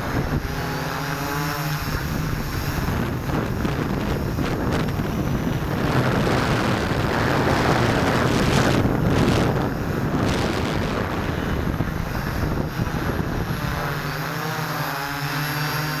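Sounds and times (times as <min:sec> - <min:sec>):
drone motors buzzing: 0:00.0 - 0:16.0
wind rushing over microphone: 0:00.0 - 0:16.0.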